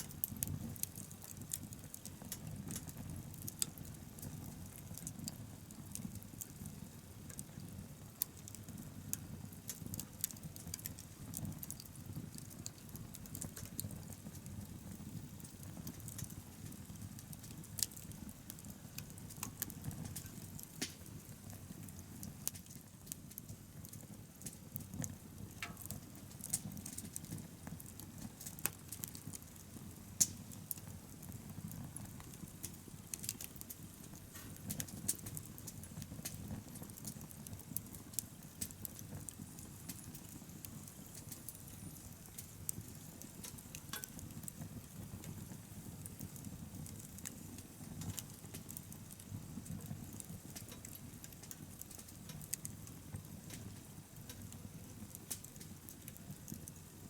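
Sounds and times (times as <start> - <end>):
bonfire crackling and popping: 0.0 - 57.0
low fire rumble: 0.0 - 57.0.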